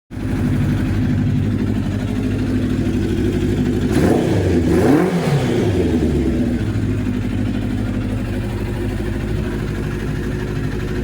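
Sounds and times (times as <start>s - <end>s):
motorcycle engine idling and revving: 0.1s - 11.0s.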